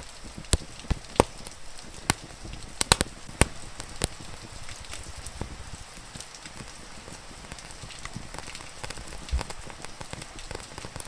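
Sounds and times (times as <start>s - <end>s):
rain hissing: 0.0s - 11.0s
wood fire crackling: 0.0s - 11.0s.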